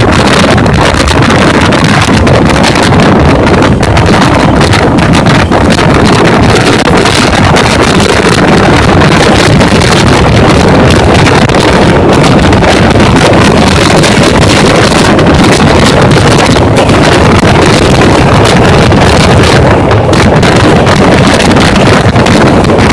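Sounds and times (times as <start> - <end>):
train rumbling at high speed: 0.0 - 22.9
wind buffeting microphone: 0.0 - 22.9.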